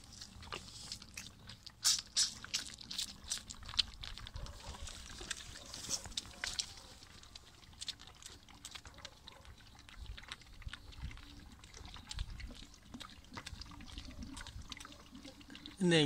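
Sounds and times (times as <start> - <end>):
calf sucking from bottle: 0.0 - 15.8.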